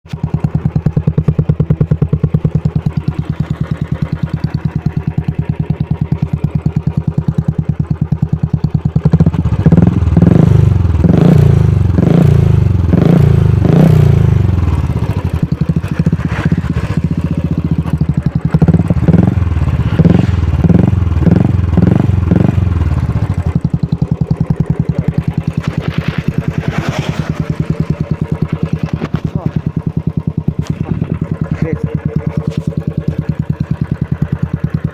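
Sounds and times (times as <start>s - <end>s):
motorcycle idling and revving: 0.0s - 34.9s.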